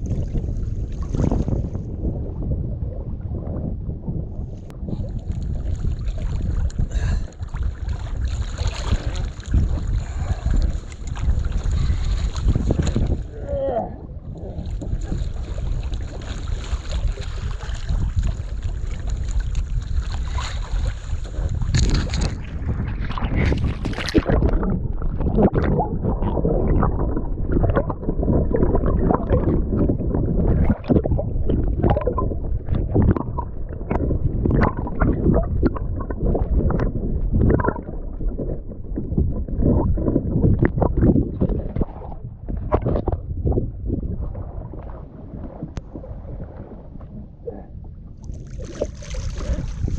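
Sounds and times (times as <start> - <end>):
muffled underwater gurgling: 0.0 - 49.9
water sloshing and gurgling: 0.0 - 49.9
wind on microphone: 0.0 - 49.9.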